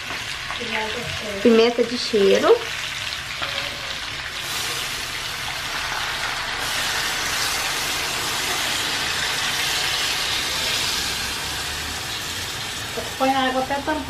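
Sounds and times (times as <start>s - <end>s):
chicken sizzling in hot fat: 0.0s - 14.0s.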